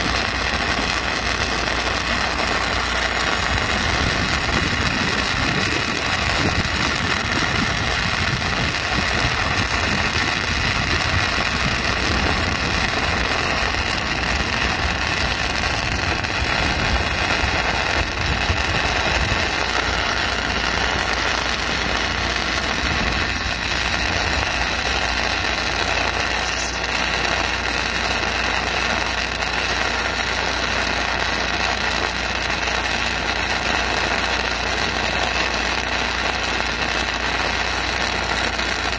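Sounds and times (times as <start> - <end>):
welding arc: 0.0 - 38.9.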